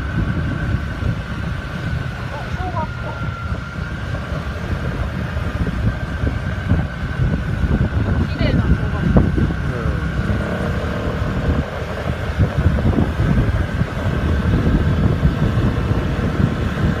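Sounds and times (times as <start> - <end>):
motor scooter engine running: 0.0 - 17.0
wind buffeting microphone: 0.0 - 17.0.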